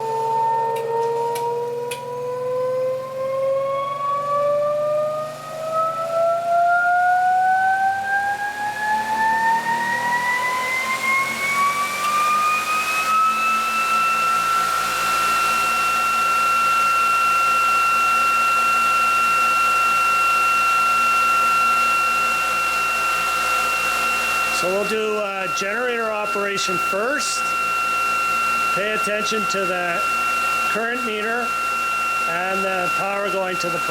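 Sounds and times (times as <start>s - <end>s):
electric motor whine rising: 0.0s - 33.9s.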